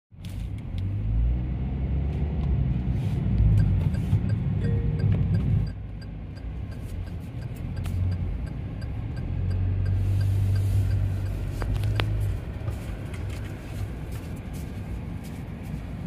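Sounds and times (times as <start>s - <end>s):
engine and road rumble: 0.1s - 16.0s.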